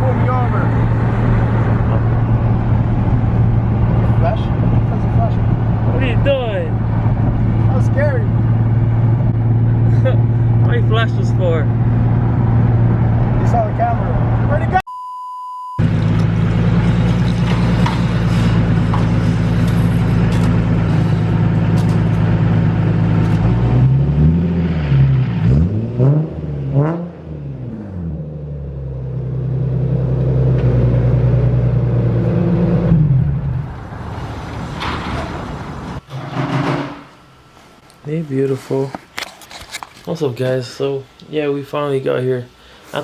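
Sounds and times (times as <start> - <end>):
car engine revving: 0.0 - 14.8, 15.8 - 36.1.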